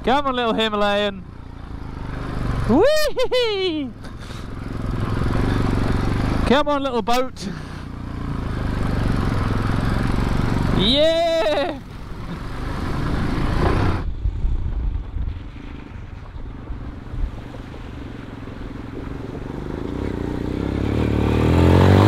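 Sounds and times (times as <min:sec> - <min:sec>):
motorcycle engines: 0:00.0 - 0:22.0.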